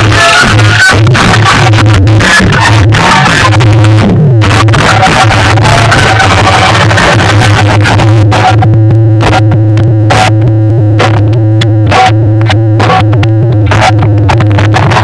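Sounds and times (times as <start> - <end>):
loud distorted electronic dance music: 0.0 - 15.0.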